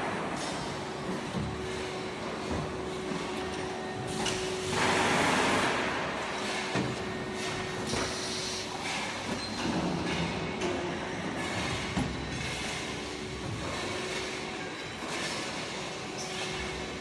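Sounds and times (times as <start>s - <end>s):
factory machinery running: 0.0s - 17.0s.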